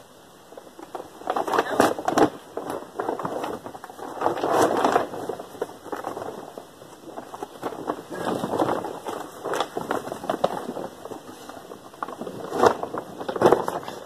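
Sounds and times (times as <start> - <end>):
tarp rustling and crackling: 0.0 - 14.0.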